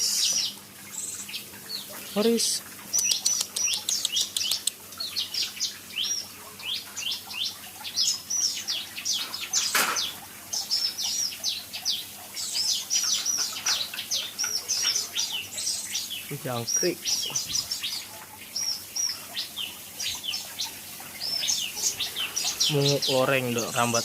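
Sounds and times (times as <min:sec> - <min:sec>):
songbirds chirping rapidly: 0:00.0 - 0:24.0.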